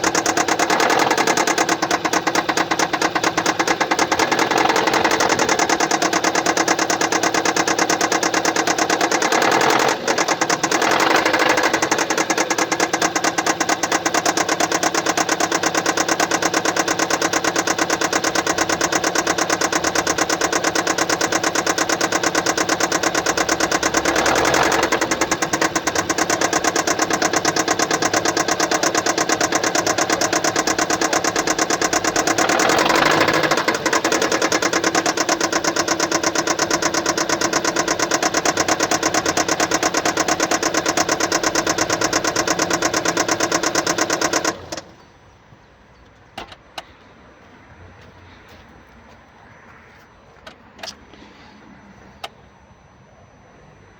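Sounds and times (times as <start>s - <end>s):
car engine fast ticking: 0.0s - 45.2s.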